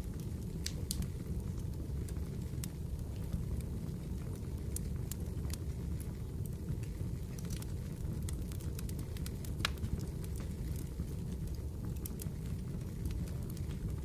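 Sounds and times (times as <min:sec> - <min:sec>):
fireplace crackling: 0:00.0 - 0:14.0.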